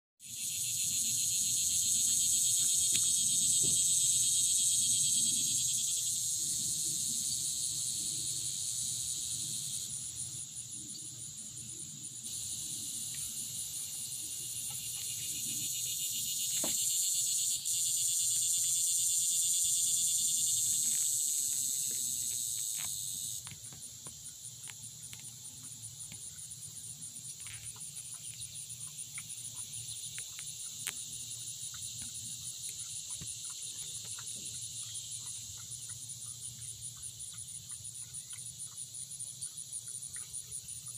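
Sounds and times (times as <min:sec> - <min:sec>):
insects buzzing: 0:00.2 - 0:40.9.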